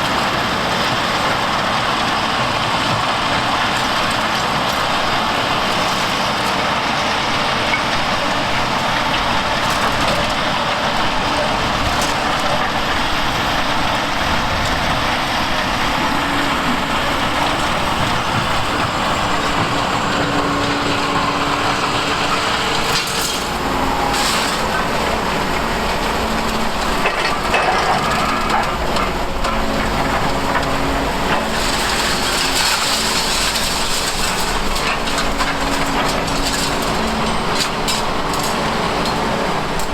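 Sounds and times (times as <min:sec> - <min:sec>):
excavator engine drone: 0:00.0 - 0:39.9
crunching and scraping of concrete: 0:03.2 - 0:39.9.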